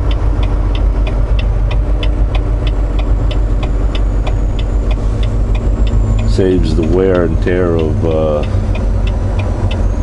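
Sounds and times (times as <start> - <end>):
light ticking: 0.0 - 10.0
truck diesel engine running: 0.0 - 10.0.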